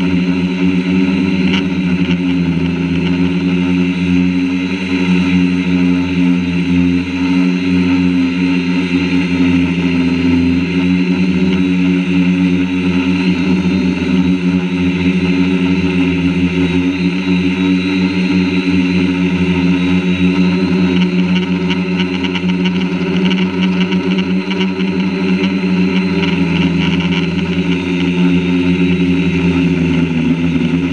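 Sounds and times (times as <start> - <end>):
drone motors buzzing hum: 0.0 - 30.9.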